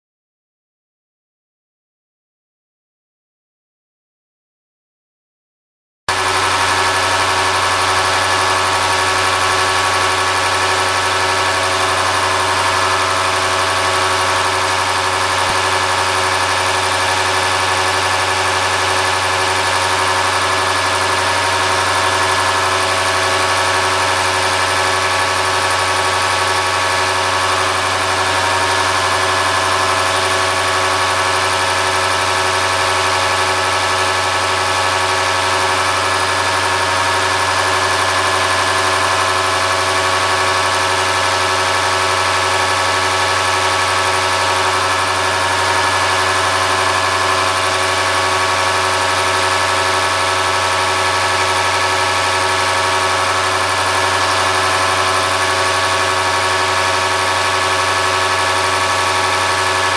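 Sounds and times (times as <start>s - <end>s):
mechanical drone of test bench: 6.1s - 59.9s.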